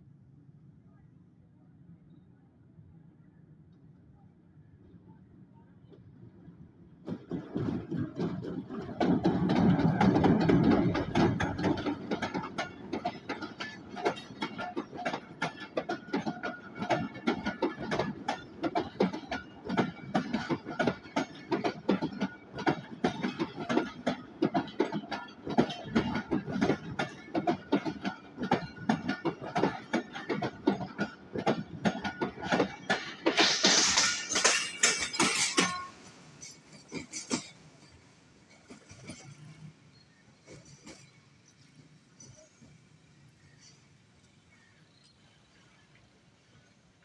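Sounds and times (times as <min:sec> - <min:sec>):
train wheels clicking over rail joints: 0:07.0 - 0:47.0.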